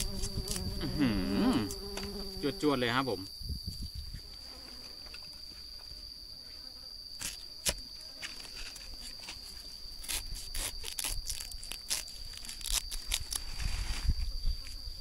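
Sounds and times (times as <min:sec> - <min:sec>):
insect high-pitched drone: 0:00.0 - 0:15.0.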